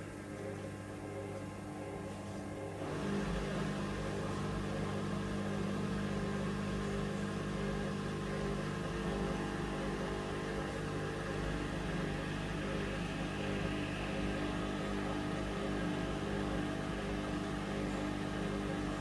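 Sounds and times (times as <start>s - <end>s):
washing machine running: 0.0s - 19.0s.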